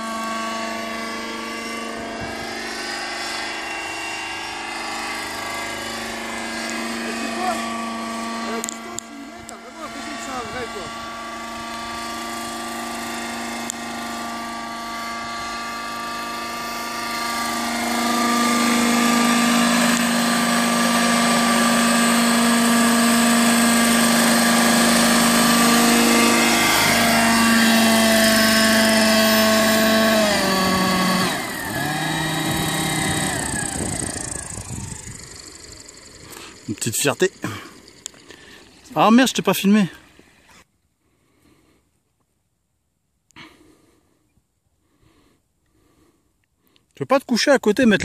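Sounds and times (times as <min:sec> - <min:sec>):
model helicopter engine and rotor hum: 0:00.0 - 0:48.0.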